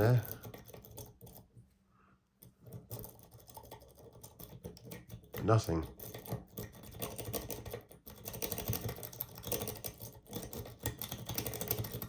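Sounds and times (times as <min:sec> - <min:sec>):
lock pick clicking and rattling: 0:00.0 - 0:01.5, 0:02.4 - 0:12.0.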